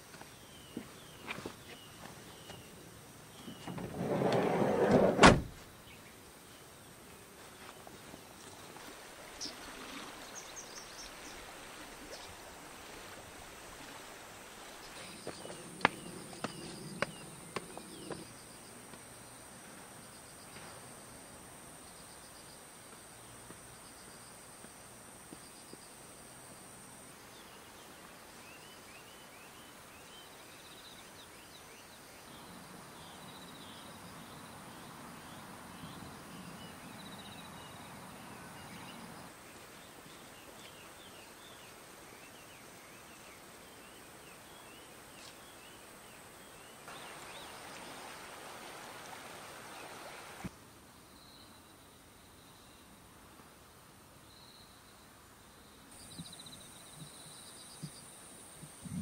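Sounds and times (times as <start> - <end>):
flowing water hiss: 0.0 - 50.9.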